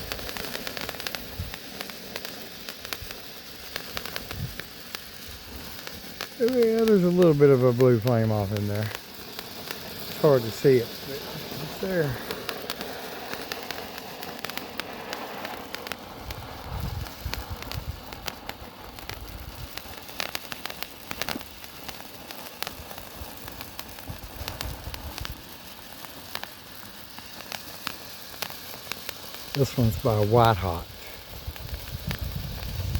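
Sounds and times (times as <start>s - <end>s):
firework fountain hissing: 0.0s - 32.9s
sharp crackles: 0.0s - 32.9s.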